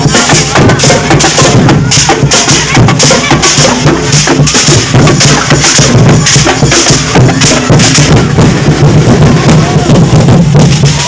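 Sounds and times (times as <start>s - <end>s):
drum-heavy music: 0.0s - 11.0s.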